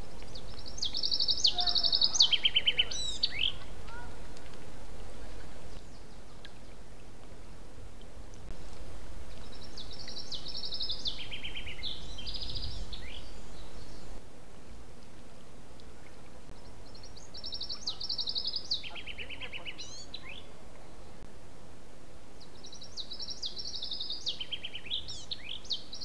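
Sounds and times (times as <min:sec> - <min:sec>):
songbird singing trills: 0:00.0 - 0:07.1, 0:09.2 - 0:14.2, 0:16.0 - 0:21.2, 0:22.4 - 0:26.0
steady background hiss: 0:00.0 - 0:26.0.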